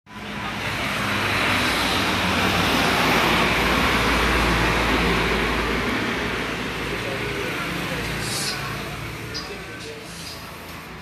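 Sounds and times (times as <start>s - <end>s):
road traffic rumble: 0.1s - 11.0s.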